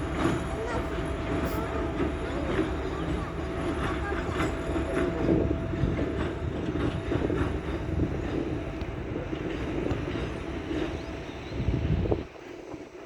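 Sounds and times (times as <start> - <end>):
diesel locomotive rumble: 0.0 - 13.0
train wheel clicks on rails: 0.0 - 13.0.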